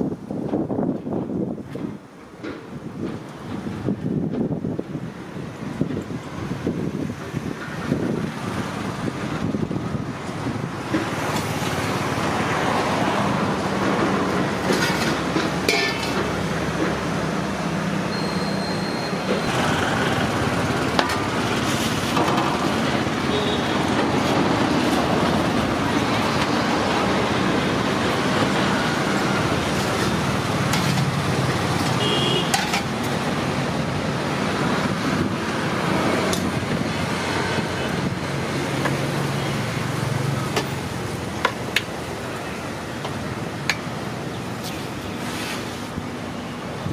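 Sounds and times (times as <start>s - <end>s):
vehicle engines running: 5.8s - 18.2s, 19.2s - 46.9s.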